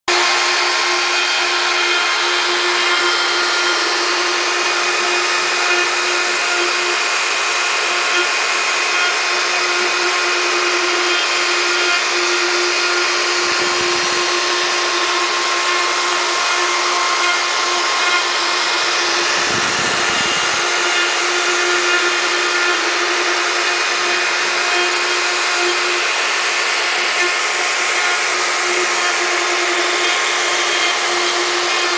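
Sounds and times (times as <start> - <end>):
wood router whining: 0.0 - 31.9.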